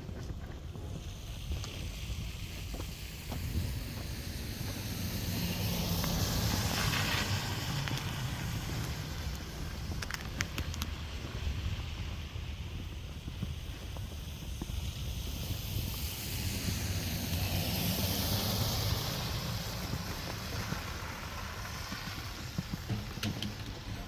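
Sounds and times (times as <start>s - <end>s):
vehicle tyre noise passing: 0.0s - 24.0s
wind rumble on microphone: 0.0s - 24.0s.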